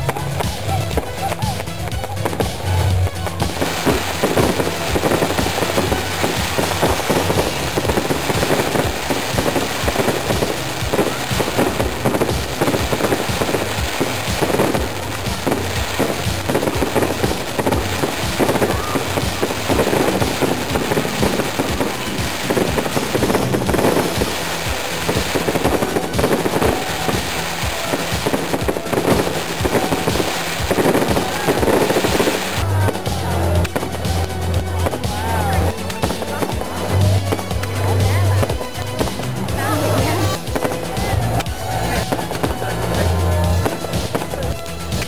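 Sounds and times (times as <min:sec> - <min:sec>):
fireworks crackling: 0:00.0 - 0:45.0
fireworks pops and bangs: 0:00.0 - 0:45.0.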